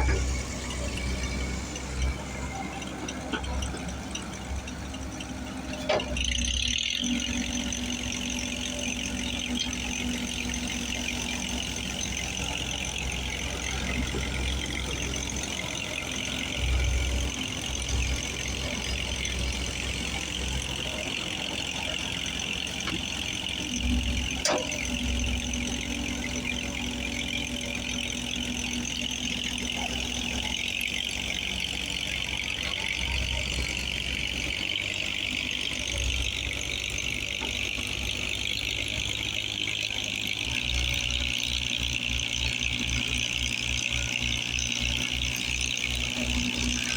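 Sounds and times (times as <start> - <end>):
engine running with low rumble: 0.0 - 46.9.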